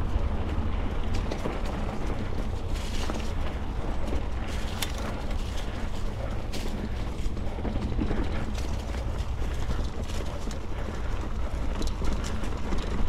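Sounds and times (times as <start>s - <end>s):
bike rattling and clicking: 0.0s - 13.0s
mountain bike rumbling over trail: 0.0s - 13.0s.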